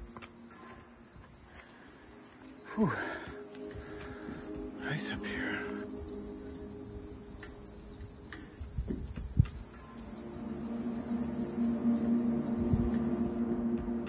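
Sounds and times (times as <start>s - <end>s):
high-pitched insect chorus: 0.0s - 13.4s.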